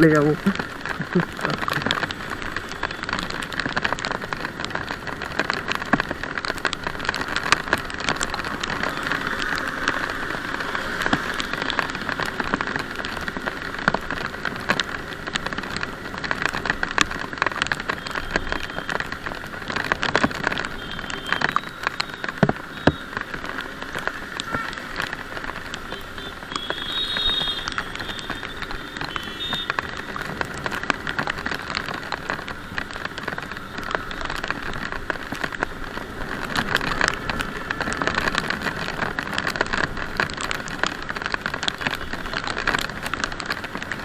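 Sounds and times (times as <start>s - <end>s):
rain falling: 0.0s - 44.0s
raindrops ticking on microphone: 0.0s - 44.0s.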